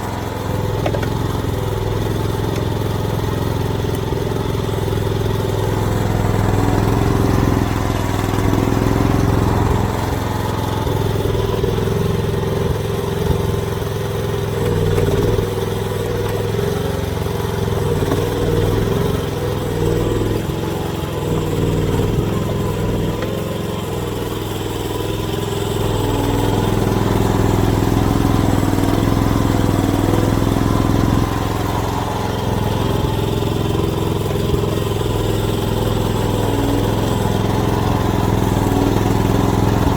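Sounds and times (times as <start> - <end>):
small excavator engine running: 0.0 - 39.9.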